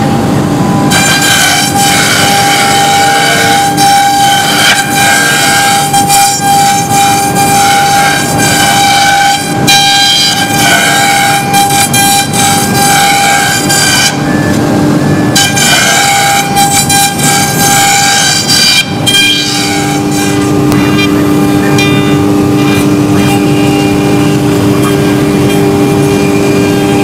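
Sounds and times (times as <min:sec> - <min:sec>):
router spindle whining: 0:00.0 - 0:27.0.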